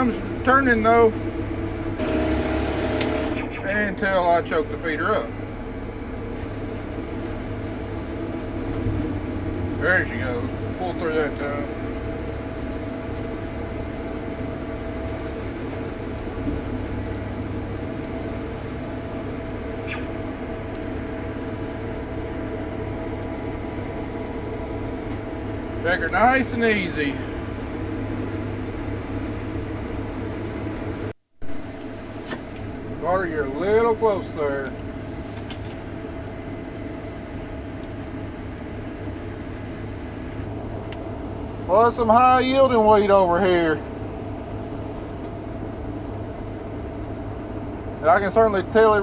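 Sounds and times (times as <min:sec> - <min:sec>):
combine harvester droning: 0:00.0 - 0:49.0
faint steady whine: 0:00.0 - 0:49.0.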